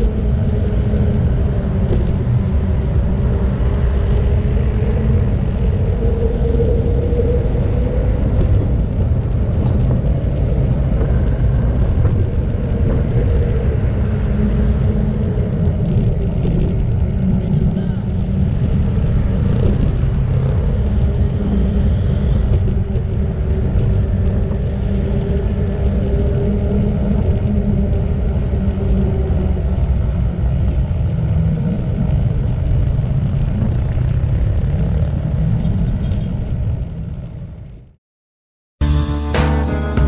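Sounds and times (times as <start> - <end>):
passing motorcycles: 0.0 - 37.8
road traffic: 0.0 - 38.0
wind buffeting microphone: 0.0 - 38.0.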